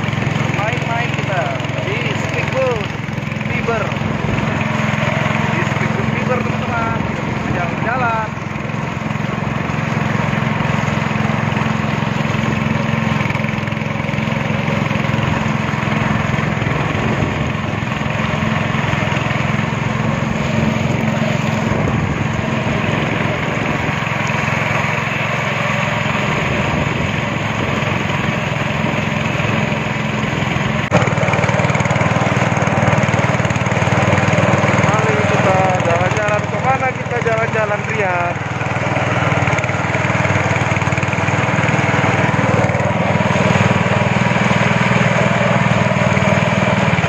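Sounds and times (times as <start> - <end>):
speedboat engine running: 0.0 - 47.0.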